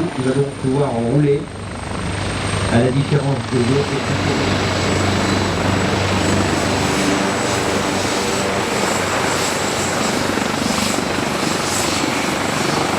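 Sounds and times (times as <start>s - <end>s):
helicopter engine whine: 0.0s - 12.9s
helicopter rotor rushing: 0.0s - 12.9s.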